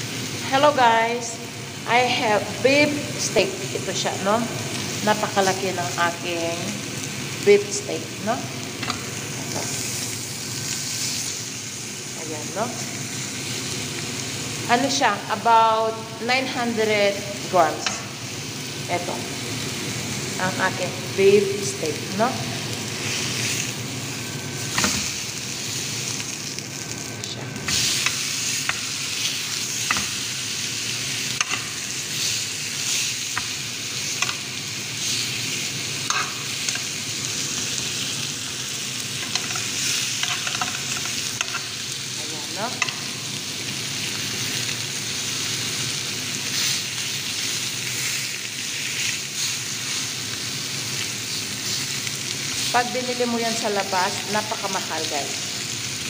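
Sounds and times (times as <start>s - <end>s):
steak sizzling in grill pan: 0.0s - 56.0s.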